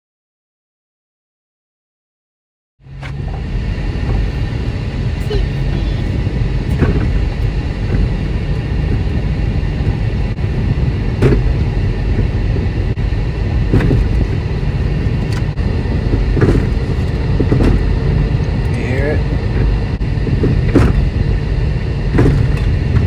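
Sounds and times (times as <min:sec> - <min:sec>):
road and engine rumble in car: 0:02.8 - 0:23.0.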